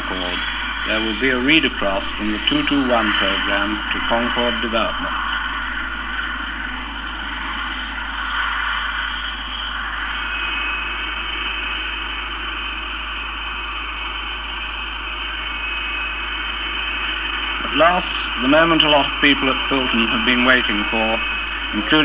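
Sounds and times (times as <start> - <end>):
jet engine rushing: 0.0 - 22.0
thin jet whine: 0.0 - 22.0.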